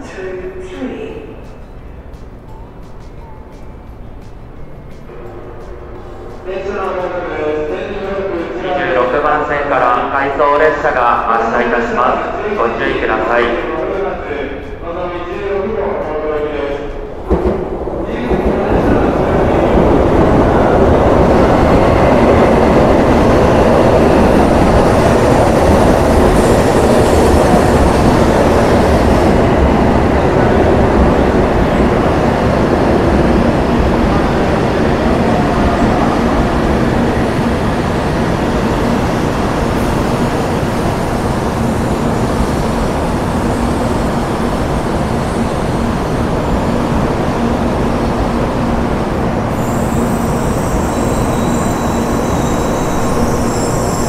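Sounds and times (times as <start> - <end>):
high-speed train departing: 0.0 - 54.0.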